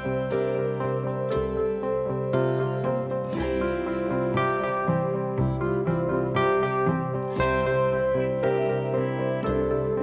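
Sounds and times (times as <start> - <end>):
gentle plucked-string music: 0.0 - 10.0.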